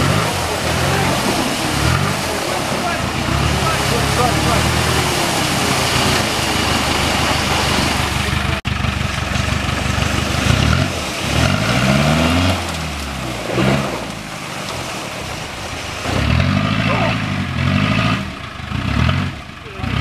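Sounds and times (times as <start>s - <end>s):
engine straining under load: 0.0s - 20.0s
wheels churning in mud: 0.0s - 20.0s.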